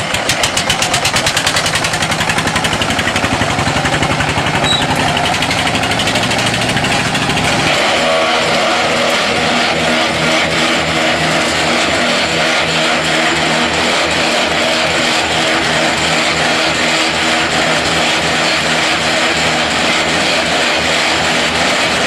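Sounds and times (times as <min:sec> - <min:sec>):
hydraulic machine running: 0:00.0 - 0:22.0
wheel loader diesel engine: 0:00.0 - 0:22.0.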